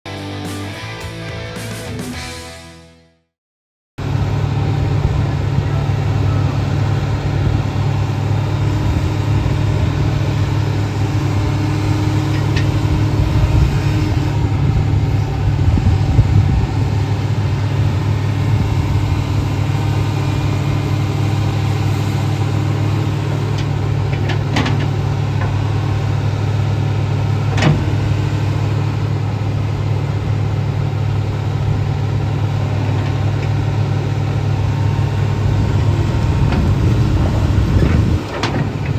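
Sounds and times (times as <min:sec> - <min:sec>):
diesel engine idling: 0:04.0 - 0:38.9.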